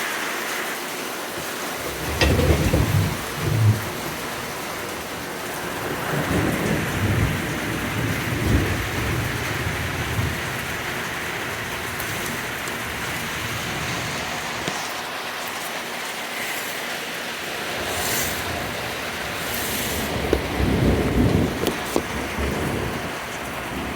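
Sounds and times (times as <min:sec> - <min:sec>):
heavy rain falling: 0:00.0 - 0:23.9
low thunder rumbles: 0:01.4 - 0:14.6, 0:17.5 - 0:23.9.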